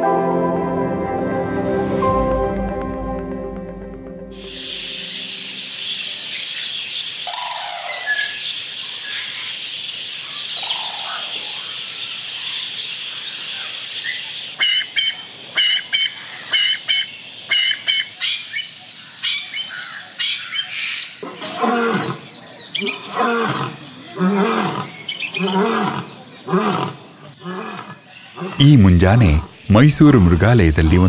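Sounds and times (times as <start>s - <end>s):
chorus of birds chirping: 4.4s - 29.9s.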